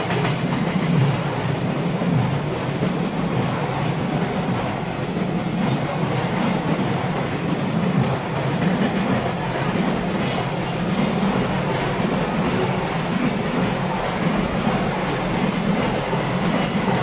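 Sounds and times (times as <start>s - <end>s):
train rumbling past on rails: 0.0s - 17.0s.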